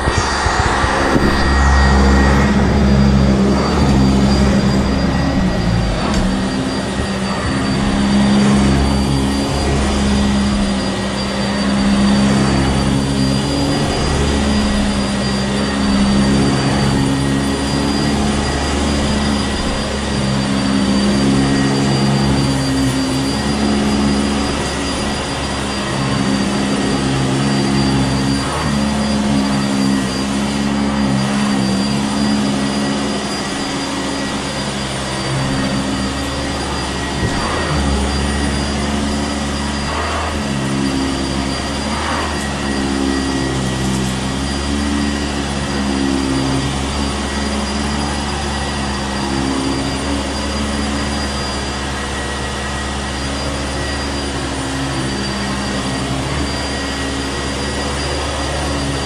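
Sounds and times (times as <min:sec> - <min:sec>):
upright vacuum cleaner running: 0:00.0 - 0:59.0.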